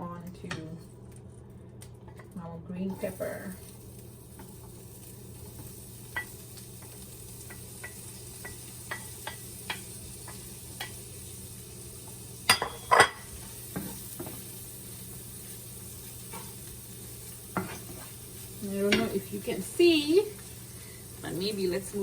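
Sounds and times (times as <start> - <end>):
garlic and pepper frying in a pan: 0.1 - 22.0.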